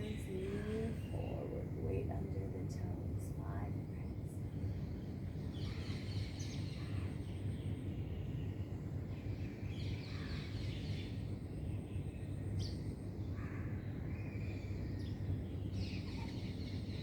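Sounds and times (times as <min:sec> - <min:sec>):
birds chirping: 0:00.0 - 0:17.0
low background rumble: 0:00.0 - 0:17.0.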